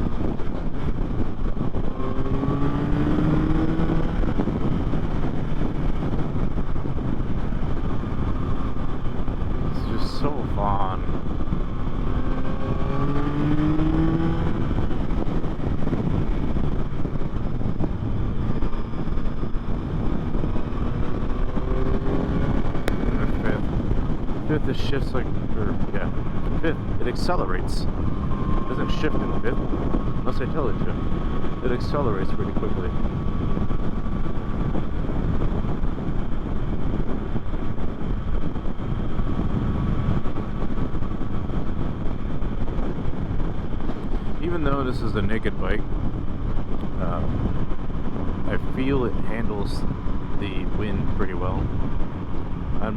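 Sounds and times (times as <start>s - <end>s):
motorcycle engine accelerating: 0.0s - 52.9s
wind noise on microphone: 0.0s - 52.9s.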